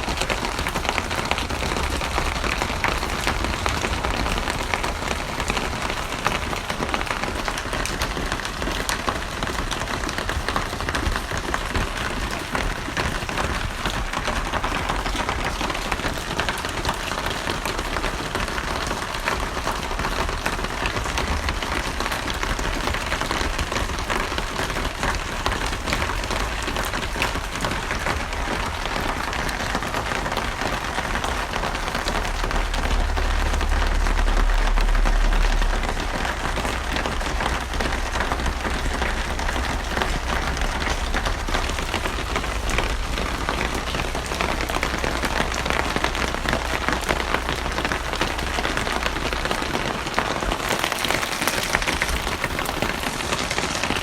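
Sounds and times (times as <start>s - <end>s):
deep low rumble: 0.0s - 8.2s, 18.5s - 54.0s
steady rain falling: 0.0s - 54.0s.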